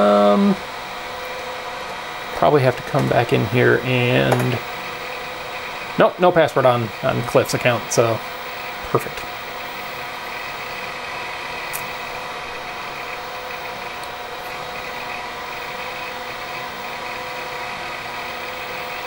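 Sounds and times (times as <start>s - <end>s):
computer cooling fans humming: 0.0s - 19.0s.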